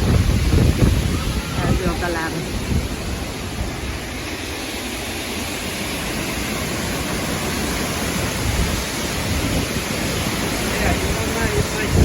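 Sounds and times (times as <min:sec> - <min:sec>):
gusty storm wind: 0:00.0 - 0:12.0
wind buffeting microphone: 0:00.0 - 0:12.0.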